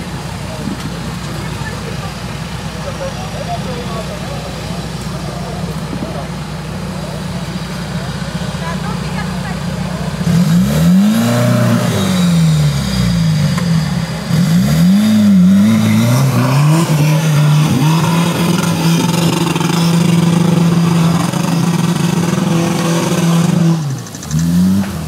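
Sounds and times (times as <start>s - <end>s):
truck engine revving hard: 0.0s - 25.0s.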